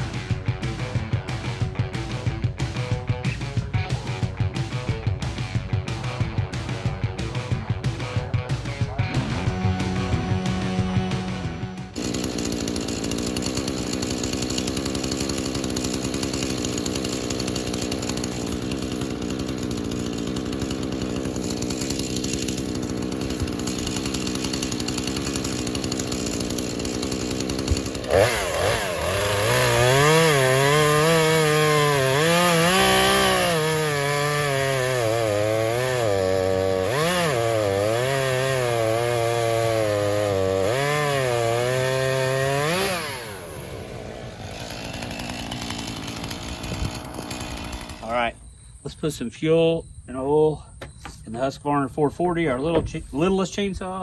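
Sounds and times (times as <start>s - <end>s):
chainsaw cutting wood: 0.0s - 48.8s.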